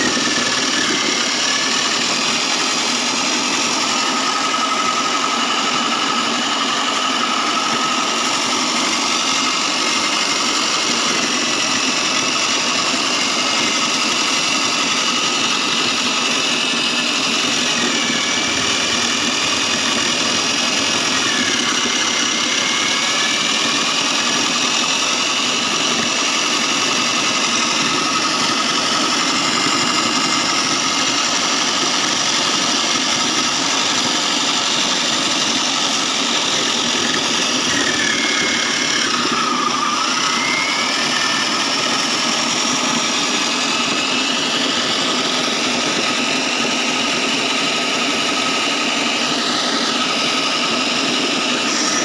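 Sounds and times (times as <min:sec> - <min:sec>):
foam shredding machine whining: 0:00.0 - 0:52.0.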